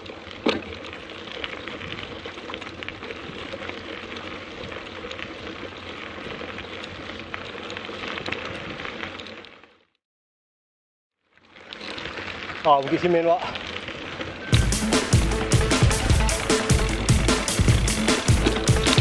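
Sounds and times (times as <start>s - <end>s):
bike tyres crackling on gravel: 0.0s - 10.0s, 11.2s - 19.0s.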